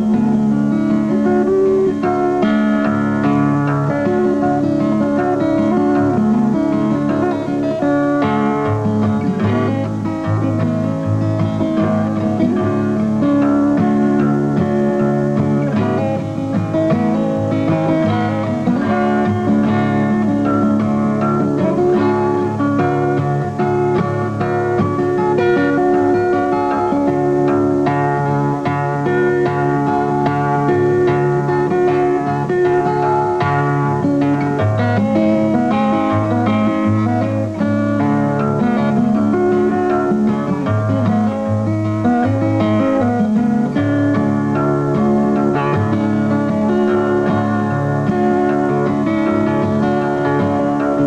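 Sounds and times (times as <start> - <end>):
plucked guitar music: 0.0 - 51.0.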